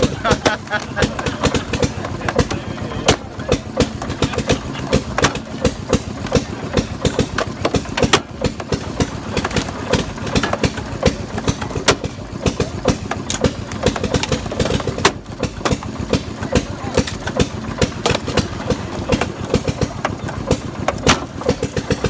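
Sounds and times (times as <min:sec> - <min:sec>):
clatter of mechanical knocks: 0:00.0 - 0:22.0
log splitter engine droning: 0:00.0 - 0:22.0.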